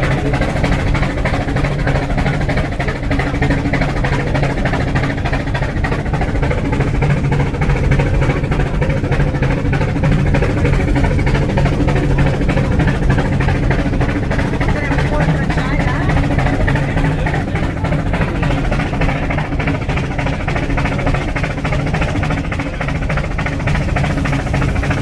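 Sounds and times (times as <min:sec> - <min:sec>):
low hum: 0:00.0 - 0:25.0
steam locomotive chuffing: 0:00.0 - 0:25.0.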